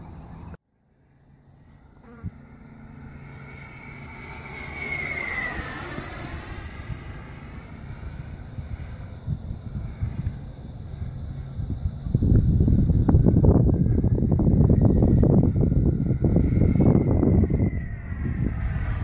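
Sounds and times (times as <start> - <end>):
model jet whine flying past: 0.1 - 19.0
wind buffeting microphone: 3.4 - 19.0.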